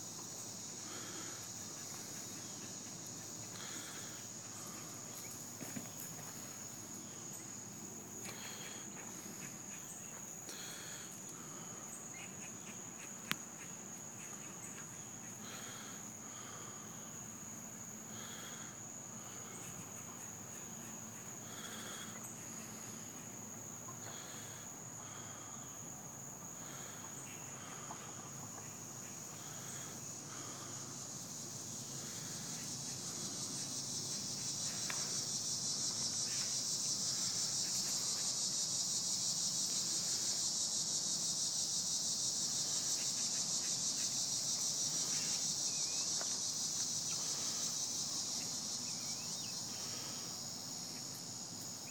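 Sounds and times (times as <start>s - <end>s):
insects droning: 0.0s - 51.9s.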